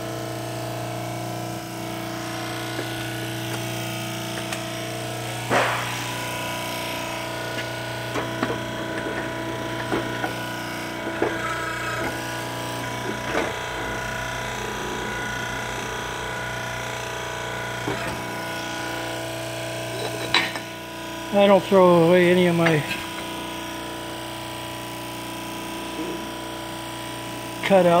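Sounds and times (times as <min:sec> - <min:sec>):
electric pump motor hum: 0:00.0 - 0:28.0.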